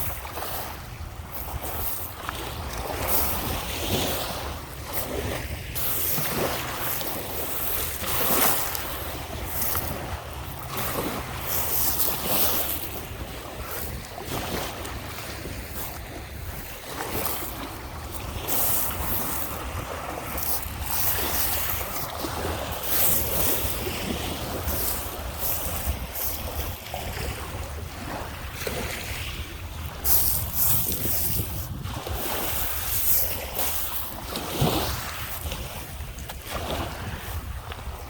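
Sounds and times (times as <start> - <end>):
waves washing onto beach: 0.0 - 38.0
wind rumbling on microphone: 0.0 - 38.0.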